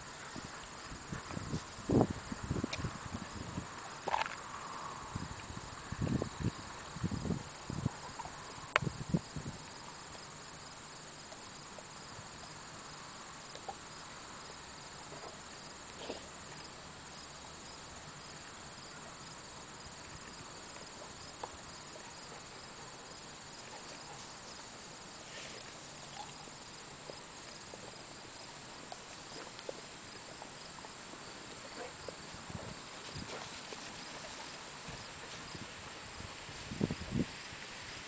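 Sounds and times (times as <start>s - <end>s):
insect chorus: 0.0s - 38.0s.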